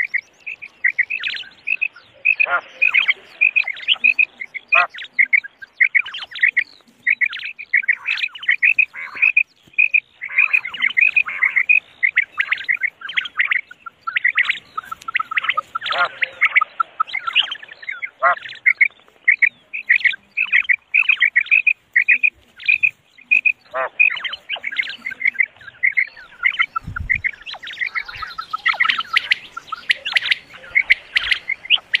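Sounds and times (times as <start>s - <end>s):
quails calling with rapid chirps: 0.0s - 32.0s.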